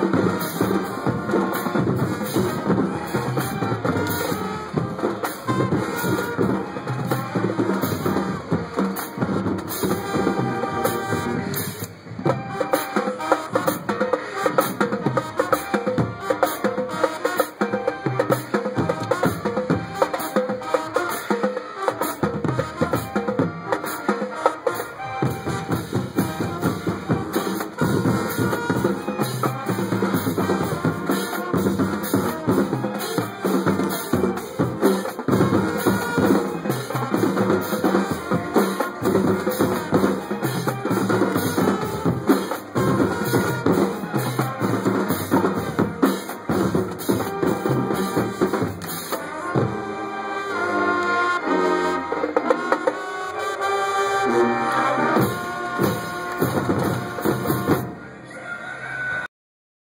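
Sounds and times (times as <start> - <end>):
marching band drums: 0.0 - 58.0
trumpets: 0.0 - 58.2.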